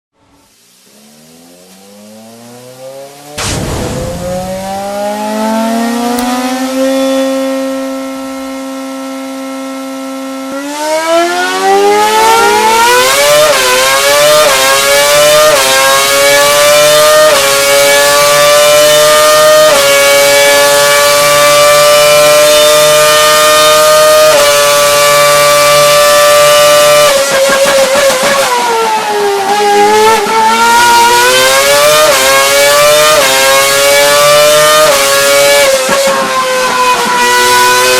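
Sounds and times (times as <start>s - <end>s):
racing car engine revving: 0.8s - 37.9s.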